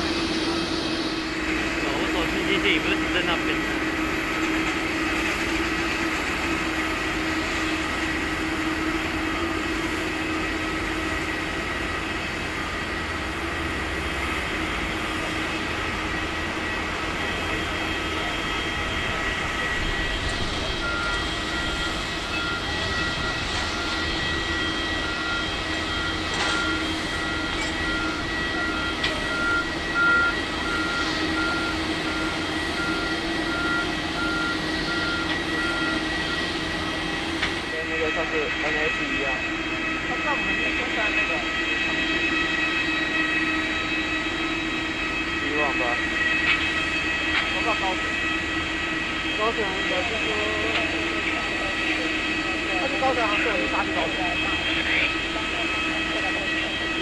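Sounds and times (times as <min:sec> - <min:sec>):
machinery hum with whining tones: 0:00.0 - 0:57.0.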